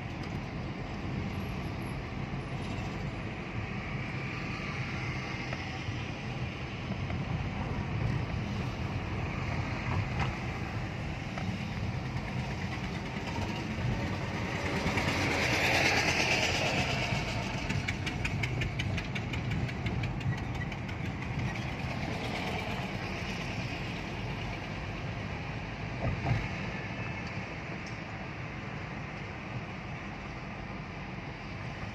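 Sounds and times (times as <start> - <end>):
car road and engine noise: 0.0 - 31.9.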